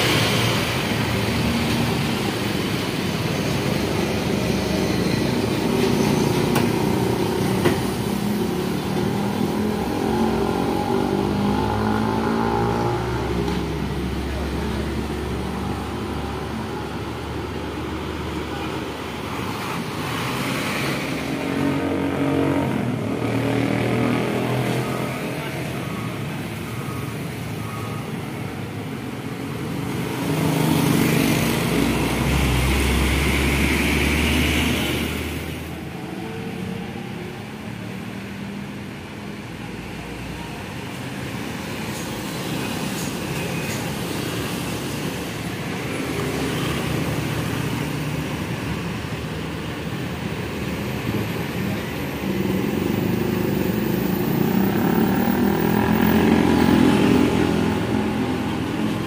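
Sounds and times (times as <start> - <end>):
motorcycles passing: 0.0 - 37.9, 41.2 - 59.0
trucks passing: 0.0 - 59.0.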